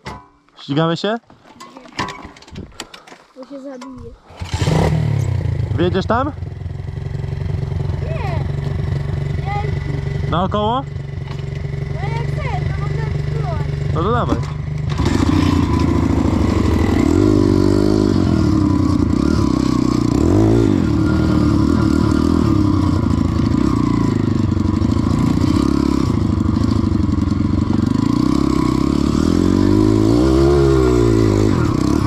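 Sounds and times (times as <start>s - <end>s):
pit bike engine revving: 4.2s - 32.0s.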